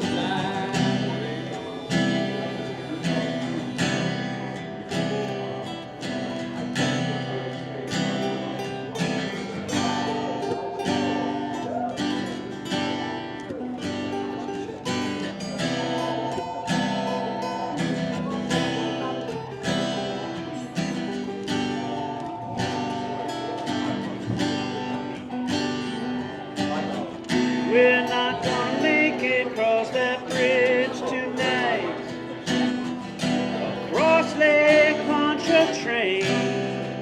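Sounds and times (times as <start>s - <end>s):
guitar strumming: 0.0s - 37.0s.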